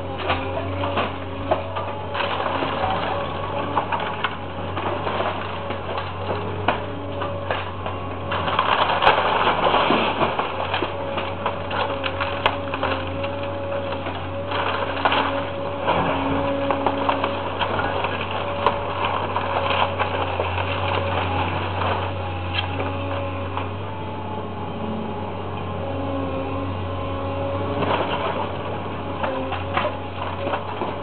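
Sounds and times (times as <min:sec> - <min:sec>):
debris crashing: 0:00.0 - 0:24.0, 0:26.1 - 0:31.0
excavator engine running: 0:00.0 - 0:31.0
timber and rubble crunching: 0:00.0 - 0:31.0.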